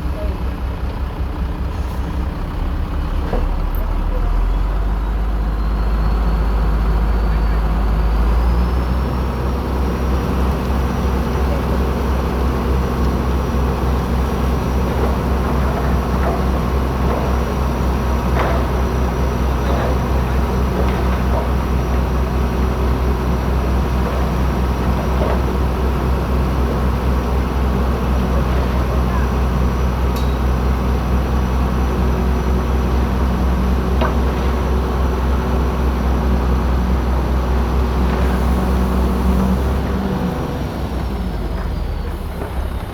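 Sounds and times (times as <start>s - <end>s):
bulldozer diesel engine droning: 0.0s - 42.9s.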